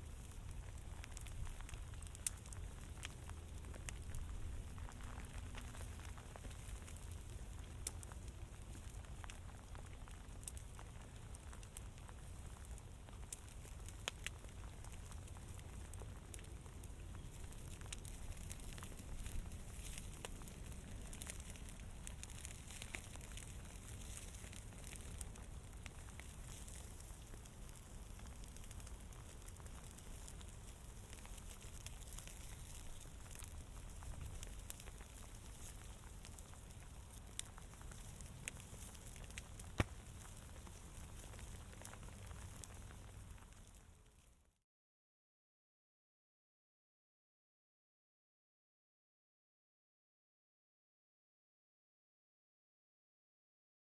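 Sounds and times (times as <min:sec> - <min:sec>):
low hiss and rumble: 0:00.0 - 0:44.1
fire crackling and popping: 0:00.0 - 0:44.6.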